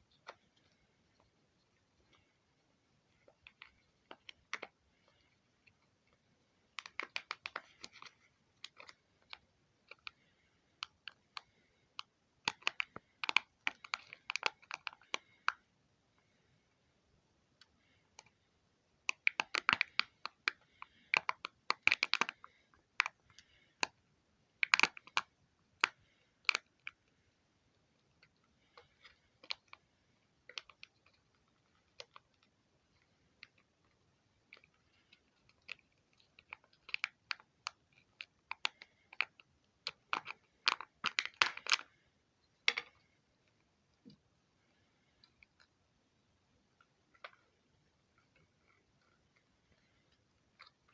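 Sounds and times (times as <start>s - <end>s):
small plastic parts clicking: 3.1s - 16.3s, 17.6s - 18.4s, 19.0s - 24.0s, 24.6s - 50.9s.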